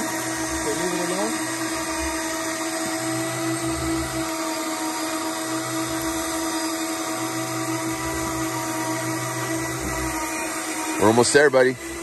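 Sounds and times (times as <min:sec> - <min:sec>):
electric fishing reel motor whining: 0:00.0 - 0:12.0.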